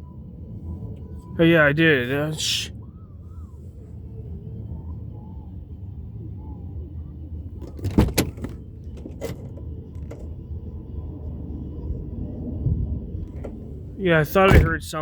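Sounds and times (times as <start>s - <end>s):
low distant rumble: 0.0s - 15.0s.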